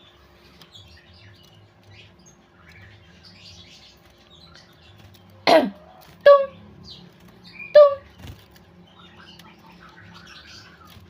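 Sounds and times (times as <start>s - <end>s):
bird chicks chirping: 0.0s - 11.0s.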